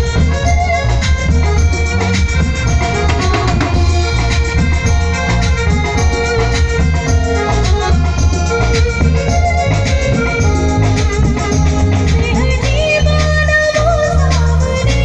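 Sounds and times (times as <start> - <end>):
heavy bass beat: 0.0 - 14.3
drum kit: 0.0 - 15.0
keyboard melody: 0.0 - 15.0.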